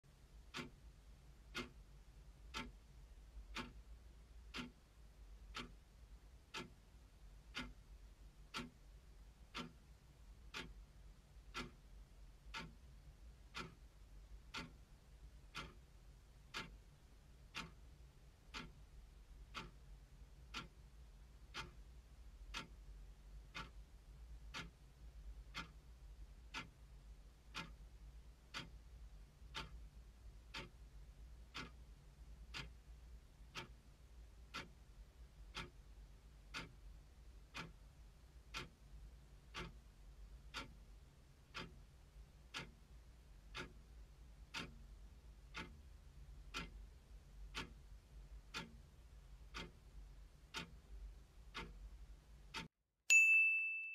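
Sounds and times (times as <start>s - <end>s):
clock ticking: 0.1s - 52.7s.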